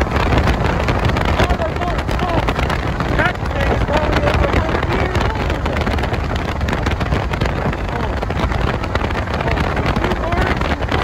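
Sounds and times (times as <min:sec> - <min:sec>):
car road noise: 0:00.0 - 0:11.0
wind rumbling on microphone: 0:00.0 - 0:11.0.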